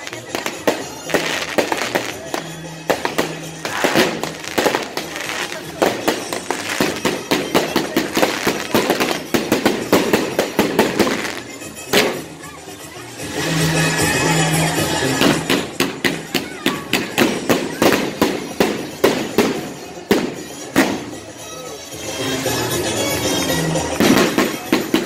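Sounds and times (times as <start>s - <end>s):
fireworks popping and banging: 0.0s - 14.2s, 15.0s - 21.5s, 23.8s - 25.0s
music: 0.0s - 25.0s.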